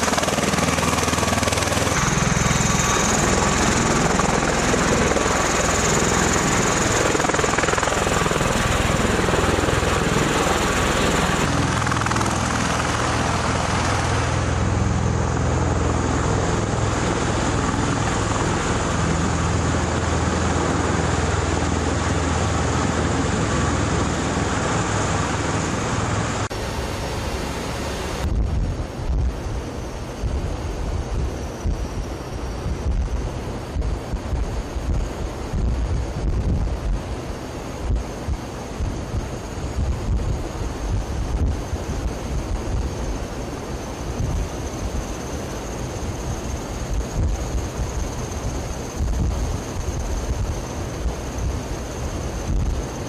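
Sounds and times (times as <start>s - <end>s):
aircraft engine roar: 0.0s - 53.0s.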